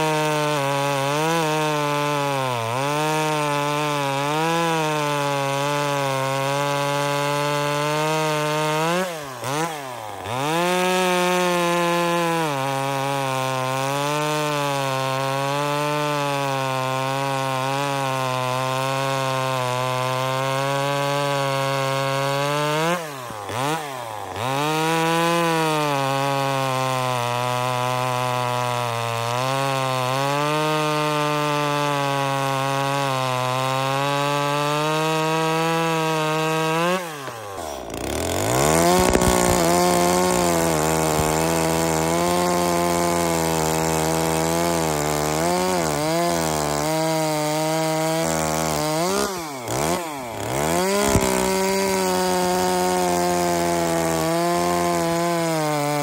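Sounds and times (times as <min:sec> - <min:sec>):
chainsaws cutting through log: 0:00.0 - 0:56.0.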